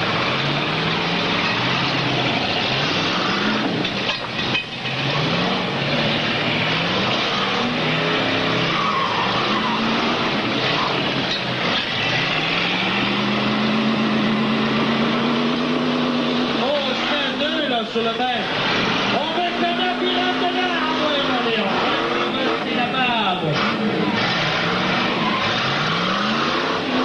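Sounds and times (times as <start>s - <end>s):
car engines revving hard: 0.0s - 27.0s.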